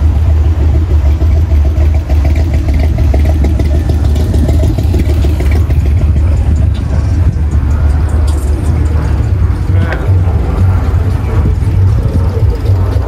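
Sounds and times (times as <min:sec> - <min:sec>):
car engines rumbling in traffic: 0:00.0 - 0:13.0.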